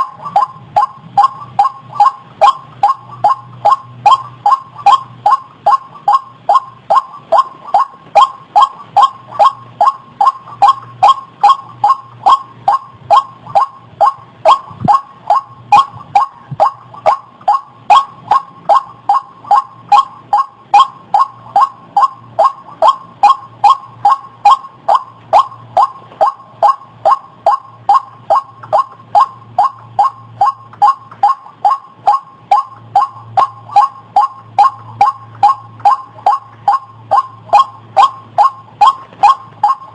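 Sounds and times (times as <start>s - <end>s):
faint low hum: 0.0s - 39.9s
waterhen calling: 0.0s - 39.9s.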